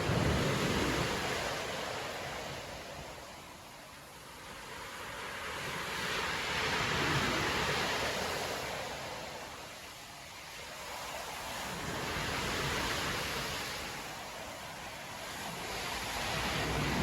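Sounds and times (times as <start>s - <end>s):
surf waves crashing on beach: 0.0s - 17.0s.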